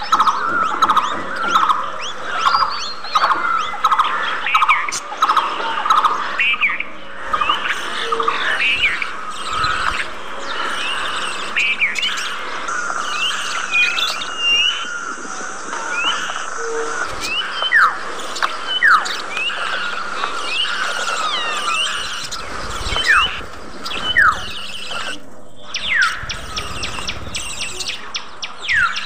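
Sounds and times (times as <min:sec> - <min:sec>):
budgerigars chirping and warbling: 0:00.0 - 0:29.0.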